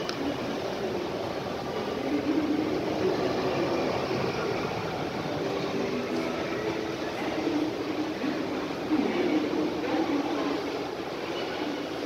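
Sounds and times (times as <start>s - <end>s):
faint distant voices: 0.0s - 12.0s
station concourse hum: 0.0s - 12.0s.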